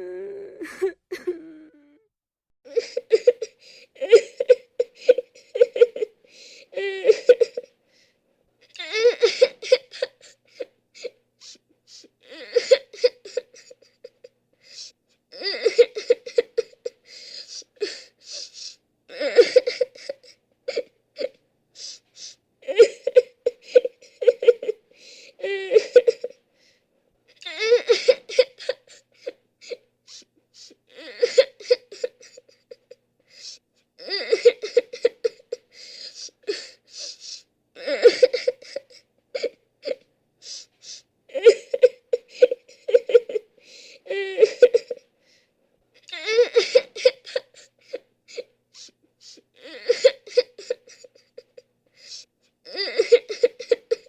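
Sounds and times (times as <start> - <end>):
person crying and sobbing: 0.0 - 2.1, 2.7 - 7.8, 8.7 - 26.4, 27.3 - 45.1, 46.0 - 54.0.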